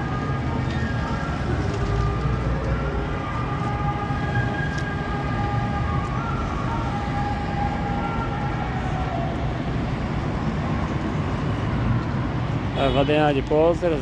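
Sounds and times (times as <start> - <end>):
heavy road traffic rumble: 0.0 - 14.0.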